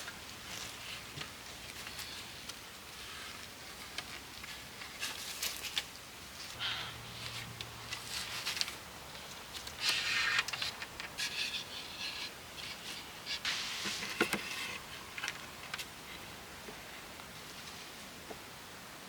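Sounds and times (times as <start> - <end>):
materials scraping and rustling: 0.0 - 6.6, 7.2 - 16.2.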